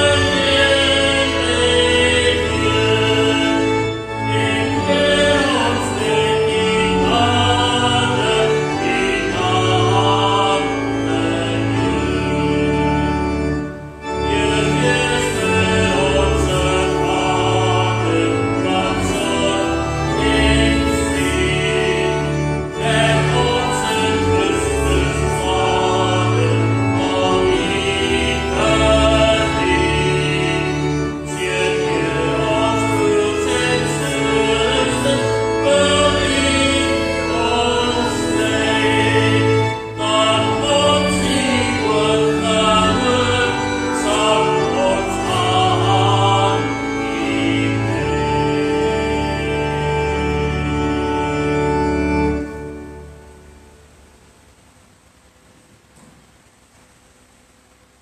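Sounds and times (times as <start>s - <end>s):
group singing a hymn: 0.0s - 13.1s, 14.0s - 50.2s
instrumental accompaniment: 0.0s - 54.3s.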